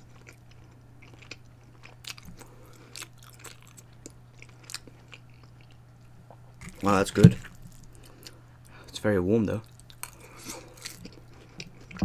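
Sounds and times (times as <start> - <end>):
chewing crunchy food: 0.0 - 8.7, 9.6 - 12.0.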